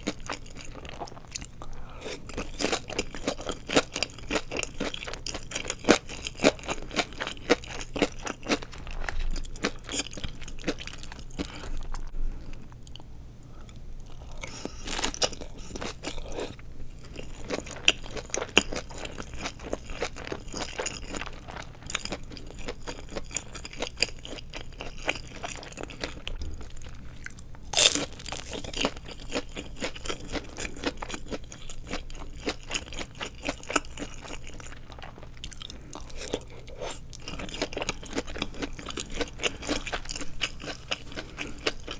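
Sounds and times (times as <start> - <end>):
crunching and chewing food: 0.0 - 41.9.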